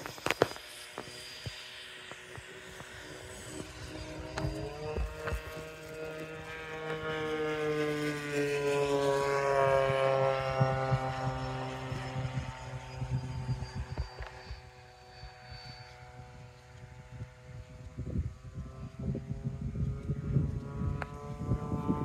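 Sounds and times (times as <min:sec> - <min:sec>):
model jet fan whine flying past: 0:00.0 - 0:22.0.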